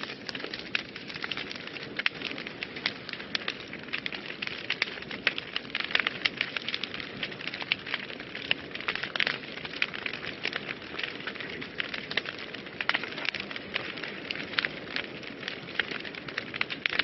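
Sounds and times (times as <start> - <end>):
fireplace fire crackling and popping: 0.0 - 17.0.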